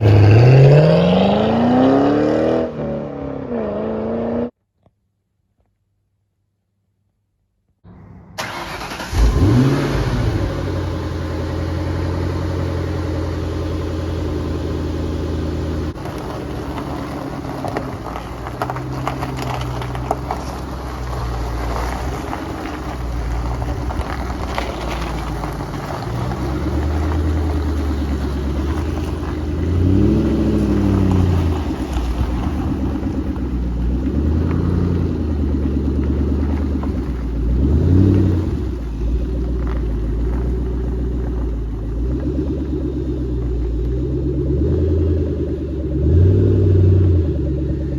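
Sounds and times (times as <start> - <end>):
car engine idling with throttle blips: 7.9 - 47.9.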